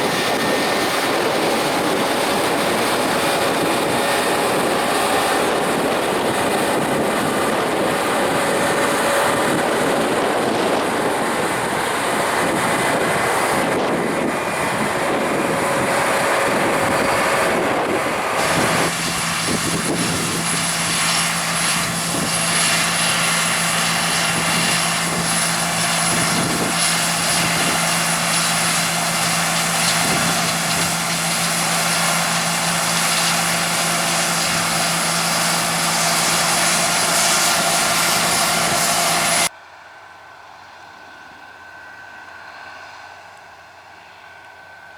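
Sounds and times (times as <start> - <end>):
harvest machinery diesel engine: 0.0 - 44.9.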